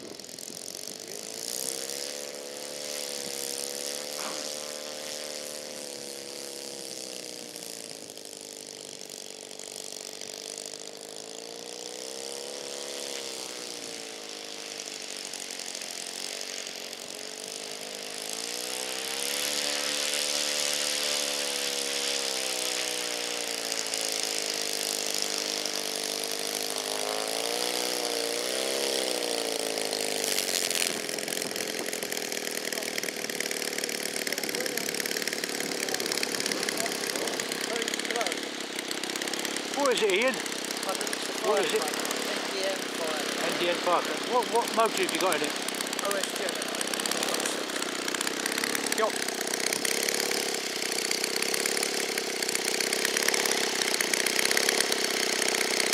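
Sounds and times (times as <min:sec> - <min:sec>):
model aircraft engine taxiing: 0:00.0 - 0:55.9.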